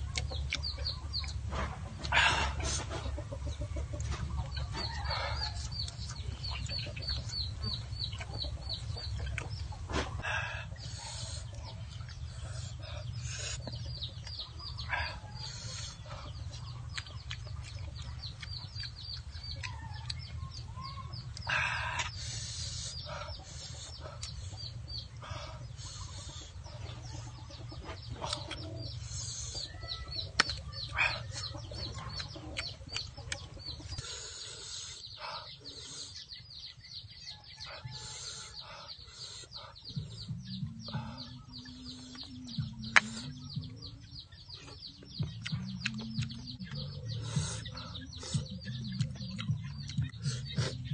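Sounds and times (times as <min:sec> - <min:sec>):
chickens clucking: 0:00.0 - 0:50.9
small birds chirping: 0:00.0 - 0:50.9.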